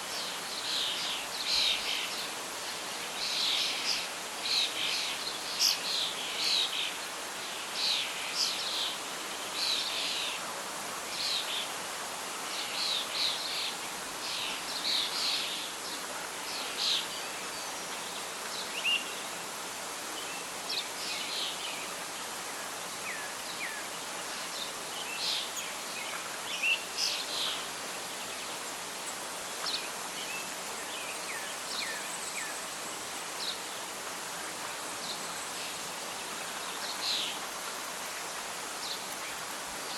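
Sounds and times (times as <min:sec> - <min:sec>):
wind and rustling leaves: 0:00.0 - 0:39.9.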